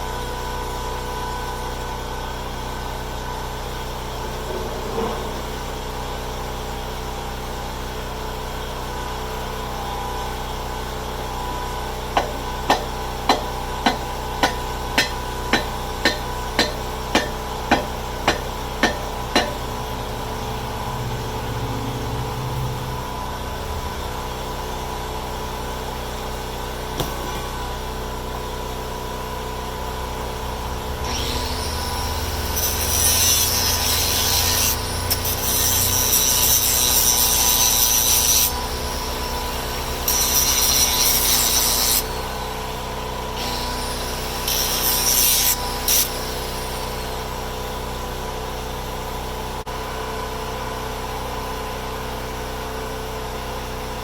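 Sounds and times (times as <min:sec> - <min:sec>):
small generator running: 0:00.0 - 0:54.0.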